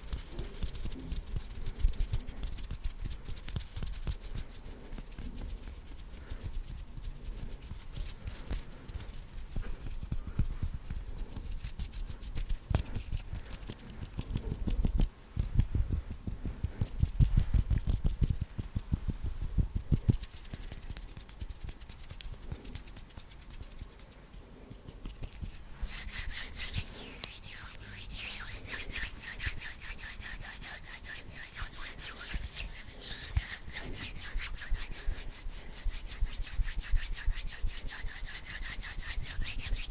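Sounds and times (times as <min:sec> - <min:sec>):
hands rubbing at microphone: 0:00.0 - 0:39.9.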